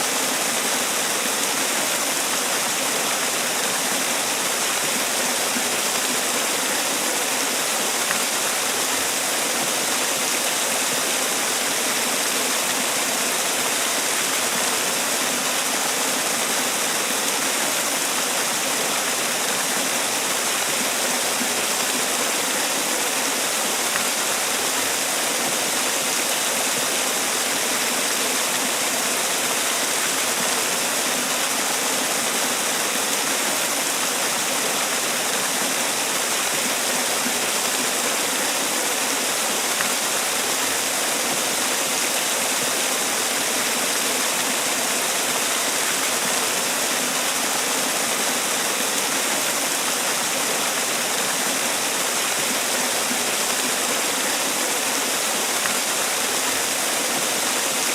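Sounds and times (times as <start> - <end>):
waterfall splashing: 0.0 - 57.9.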